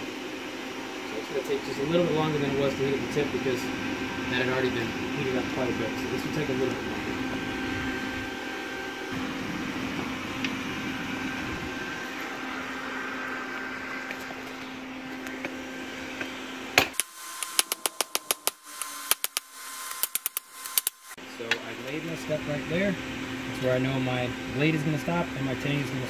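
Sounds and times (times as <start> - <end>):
forge air blower whirring: 0.0 - 26.0.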